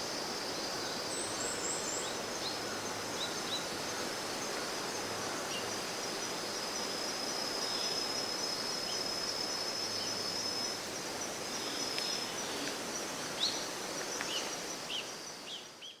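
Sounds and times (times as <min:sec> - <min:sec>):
background hiss: 0:00.0 - 0:16.0
insects trilling: 0:00.0 - 0:16.0.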